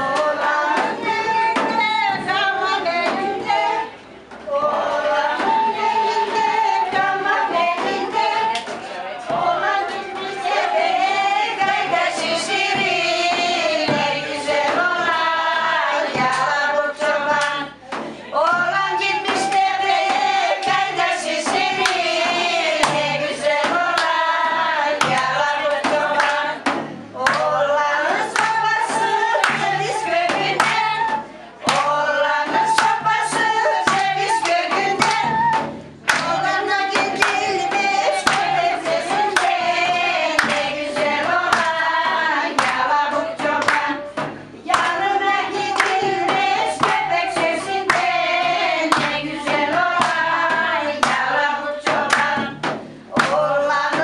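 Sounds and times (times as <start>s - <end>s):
hand claps: 0.0s - 54.0s
women singing together: 0.0s - 54.0s.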